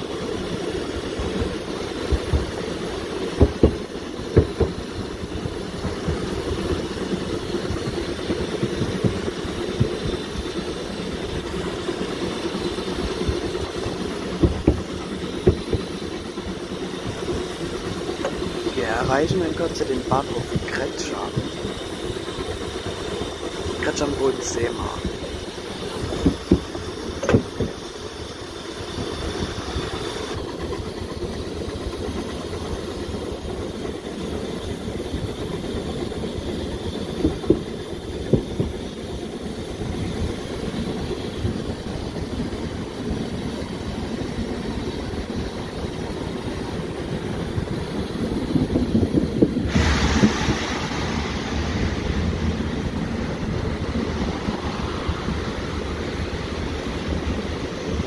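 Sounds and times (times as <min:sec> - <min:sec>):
rushing hiss: 0:00.0 - 0:58.0
train carriage rumbling on rails: 0:00.0 - 0:58.0
wheels clacking: 0:00.0 - 0:58.0.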